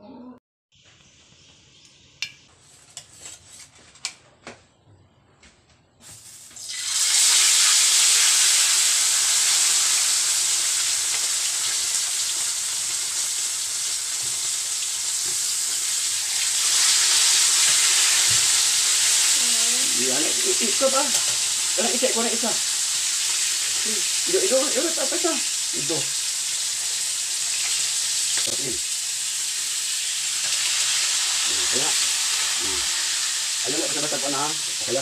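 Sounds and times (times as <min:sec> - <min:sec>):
oil sizzling in wok: 0:06.0 - 0:35.0.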